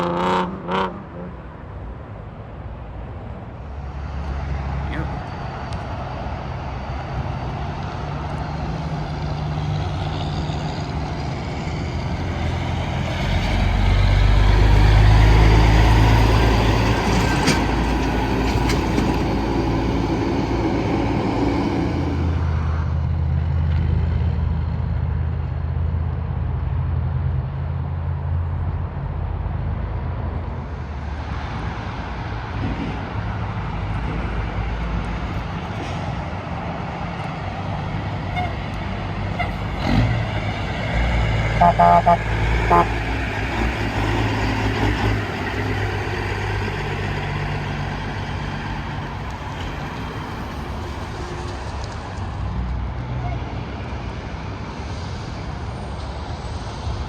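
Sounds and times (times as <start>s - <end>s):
truck engine hum: 0.0s - 57.0s.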